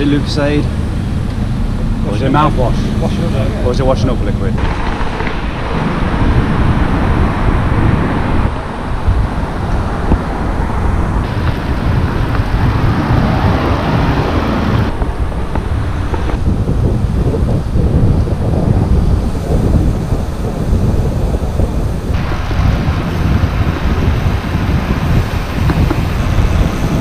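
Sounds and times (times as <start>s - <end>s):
car traffic passing: 0.0s - 17.8s, 19.2s - 27.0s
wind rushing over microphone: 0.0s - 27.0s.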